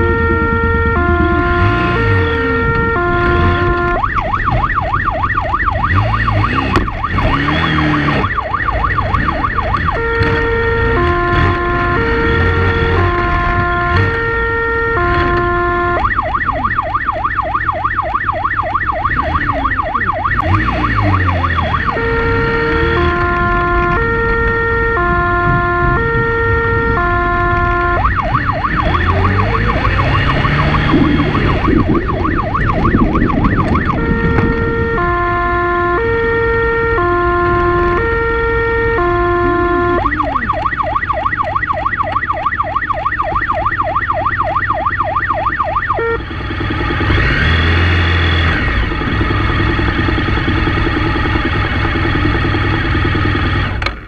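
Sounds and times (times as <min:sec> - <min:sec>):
police siren: 0:00.0 - 0:53.9
vehicle engine revving: 0:00.0 - 0:53.9
vehicle bumping: 0:00.0 - 0:54.0.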